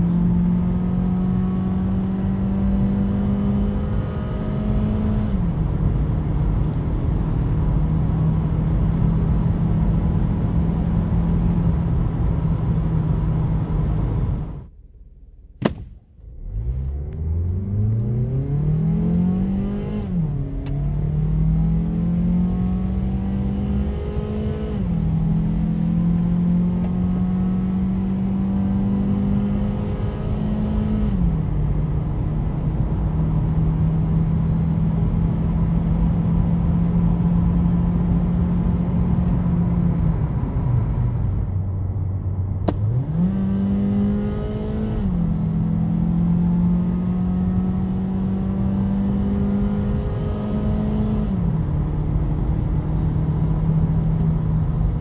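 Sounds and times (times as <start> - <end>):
car engine accelerating: 0.0 - 14.7, 15.6 - 55.0.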